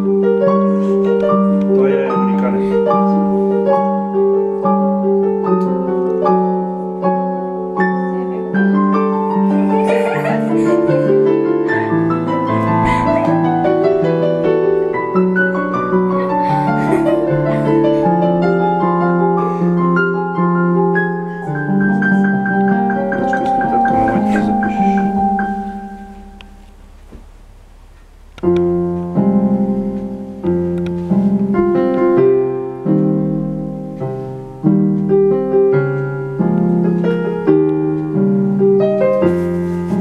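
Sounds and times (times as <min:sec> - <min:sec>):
electronic keyboard piano piece: 0:00.0 - 0:40.0.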